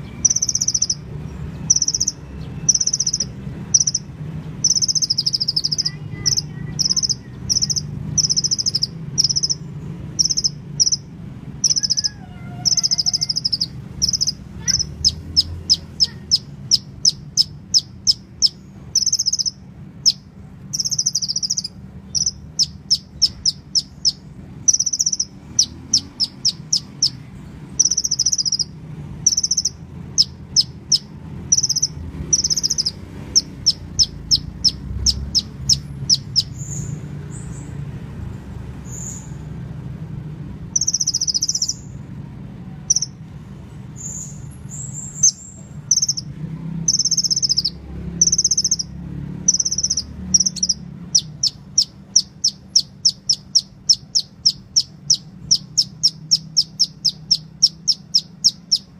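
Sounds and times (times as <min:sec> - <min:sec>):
bird chirping: 0:00.0 - 0:43.3, 0:43.9 - 0:58.9.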